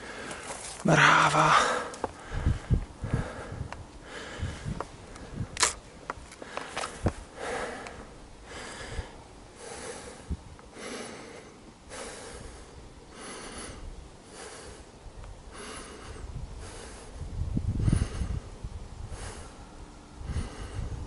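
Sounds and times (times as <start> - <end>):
person breathing heavily: 0.0 - 5.5, 6.3 - 21.0.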